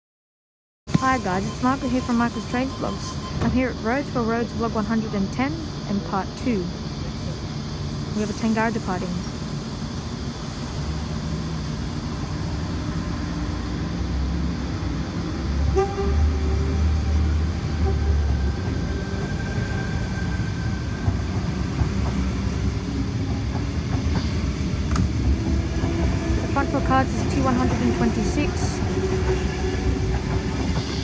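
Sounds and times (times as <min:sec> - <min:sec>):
electric train rumbling: 0:00.9 - 0:31.0.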